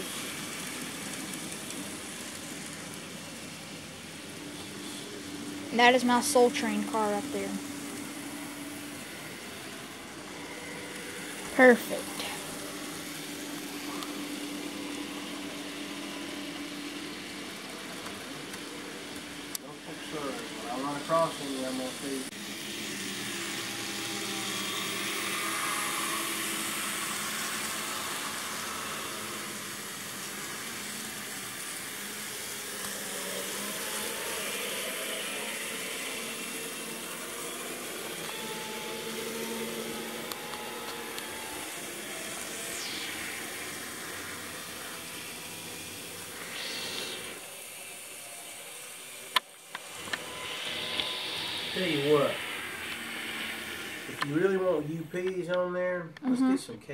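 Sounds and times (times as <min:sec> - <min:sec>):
model train motors whirring: 0:00.0 - 0:56.3.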